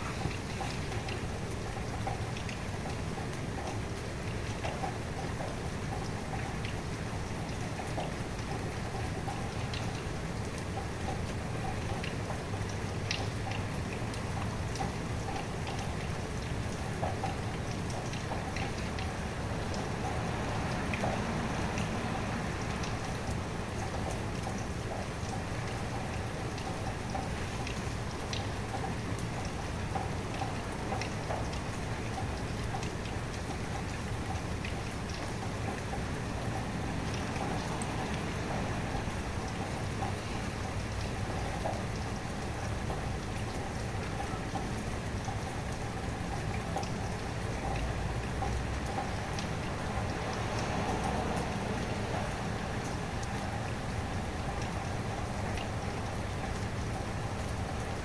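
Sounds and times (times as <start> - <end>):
low hiss and rumble of rain: 0.0 - 58.0.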